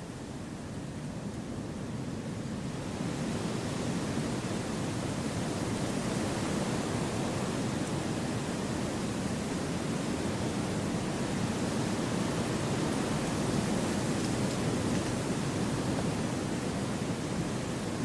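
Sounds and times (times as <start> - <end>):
wind through trees: 0.0 - 18.0.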